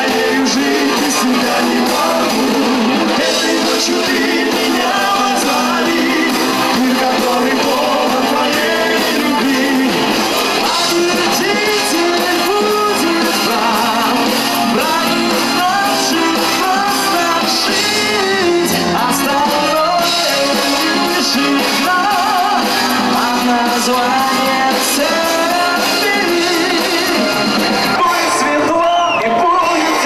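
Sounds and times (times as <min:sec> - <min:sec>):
man singing: 0:00.0 - 0:30.0
pop-rock band playing: 0:00.0 - 0:30.0.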